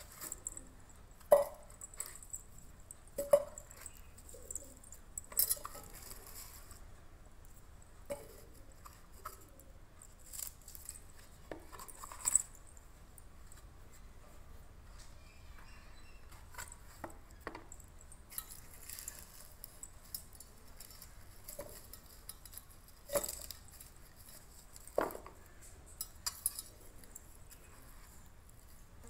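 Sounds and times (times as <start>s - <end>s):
light knocks and clinks: 0.0s - 6.8s, 7.4s - 14.1s, 14.9s - 28.8s.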